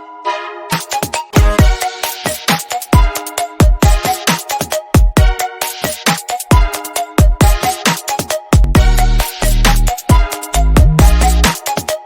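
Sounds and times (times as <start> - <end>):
electronic dance music: 0.7 - 12.0.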